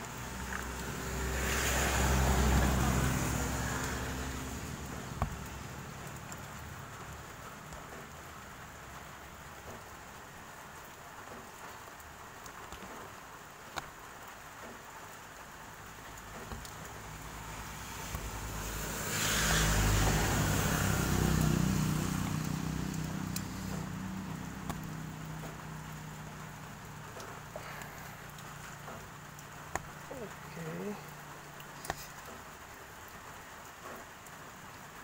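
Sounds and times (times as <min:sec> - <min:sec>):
vehicle engine: 0:00.0 - 0:10.6, 0:14.4 - 0:34.0.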